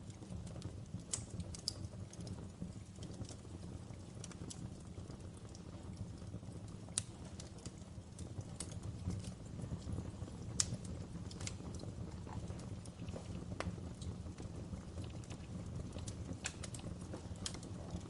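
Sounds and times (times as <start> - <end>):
low rumble of flames: 0.0 - 18.0
wood fire crackling and popping: 0.0 - 18.0.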